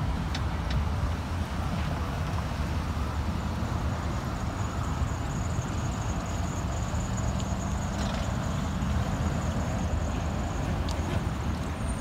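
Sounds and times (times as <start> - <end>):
cars and trucks driving by: 0.0 - 12.0.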